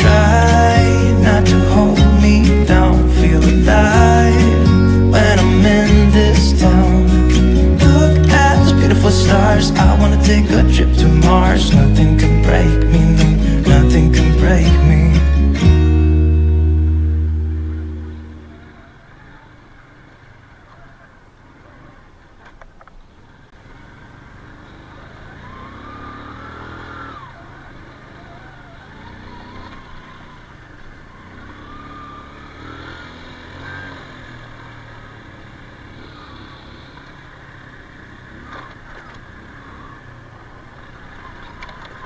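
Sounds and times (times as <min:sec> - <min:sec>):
motorbike engine running: 0:00.0 - 0:21.9, 0:23.6 - 0:42.0.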